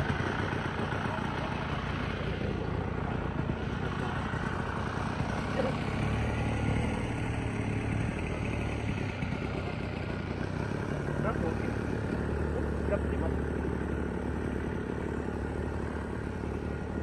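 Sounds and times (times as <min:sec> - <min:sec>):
model plane engine idling: 0:00.0 - 0:17.0.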